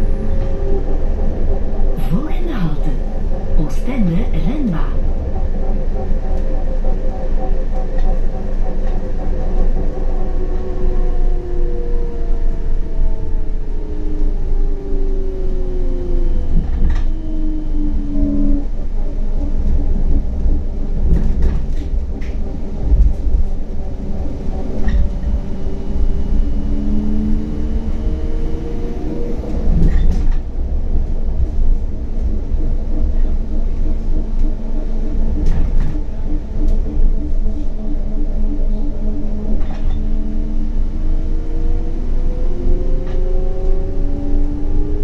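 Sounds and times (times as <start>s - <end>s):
low rail rumble: 0.0s - 45.0s
tram motor whine: 0.0s - 45.0s.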